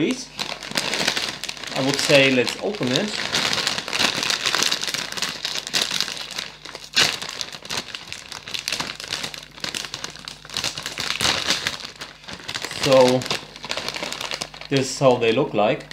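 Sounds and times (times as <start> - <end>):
plastic bag tearing open: 0.0 - 15.4
plastic bag crinkling: 0.0 - 15.9.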